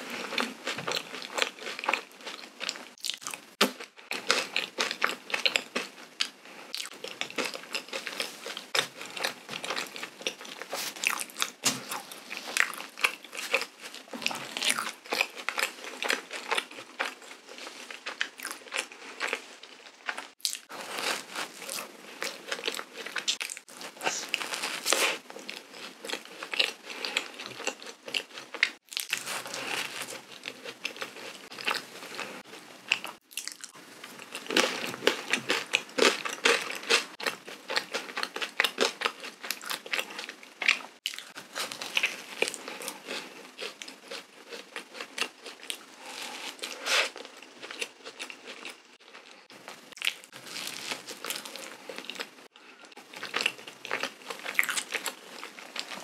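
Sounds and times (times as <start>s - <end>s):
biting and chewing donut: 0.0s - 56.0s.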